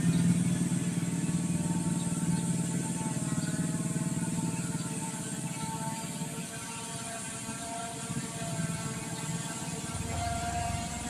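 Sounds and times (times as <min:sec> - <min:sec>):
drone propellers whirring: 0:00.0 - 0:11.0.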